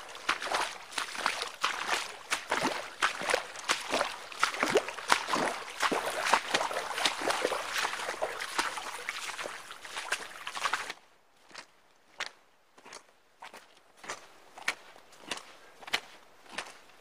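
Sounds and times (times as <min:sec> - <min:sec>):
footsteps wading through water: 0:00.0 - 0:17.0.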